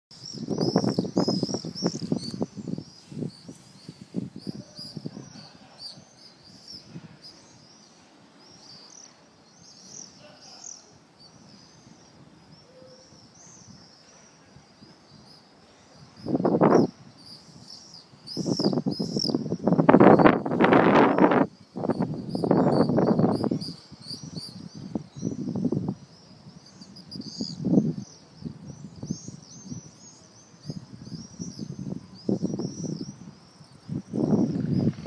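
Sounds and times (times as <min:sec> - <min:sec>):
swallows twittering: 0:00.2 - 0:35.0.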